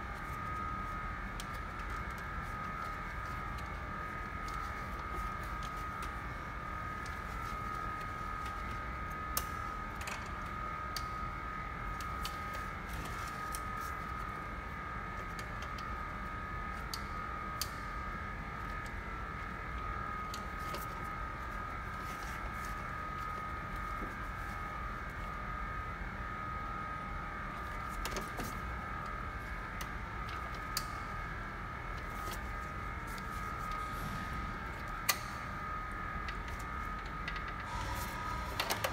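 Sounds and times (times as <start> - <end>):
steady hum: 0.0 - 38.9.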